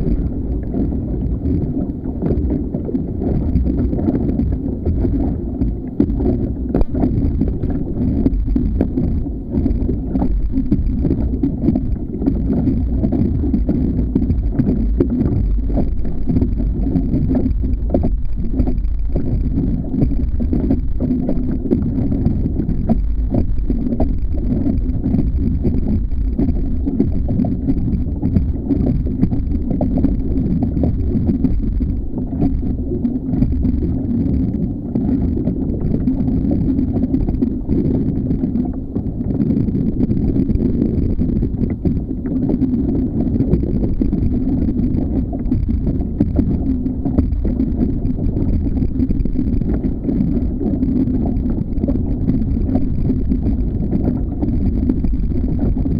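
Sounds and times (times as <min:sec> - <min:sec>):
low rumble of kayak: 0:00.0 - 0:55.9
water noise: 0:00.0 - 0:55.9
wind noise on microphone: 0:00.0 - 0:55.9.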